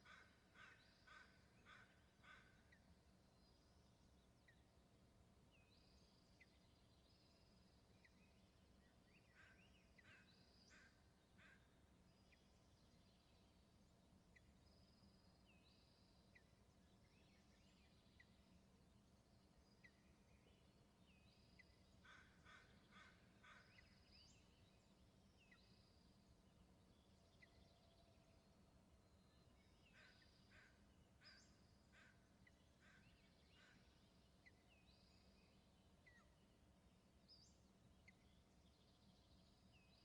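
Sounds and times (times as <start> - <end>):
faint bird chirps: 5.5 - 40.0.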